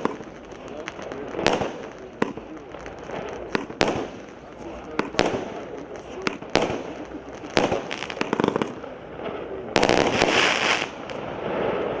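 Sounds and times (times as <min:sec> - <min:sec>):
firework bangs: 0:00.0 - 0:12.0
firework crackling pops: 0:00.0 - 0:12.0.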